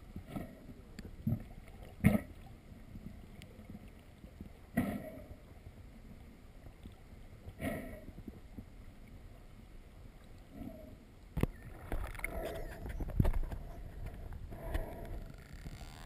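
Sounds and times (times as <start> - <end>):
low steady underwater noise: 0.0 - 16.0.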